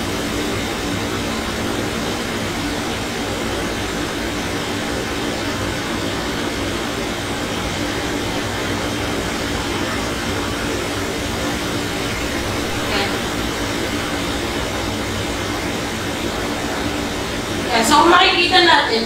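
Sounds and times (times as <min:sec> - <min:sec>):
machine hum and hiss: 0:00.0 - 0:19.0.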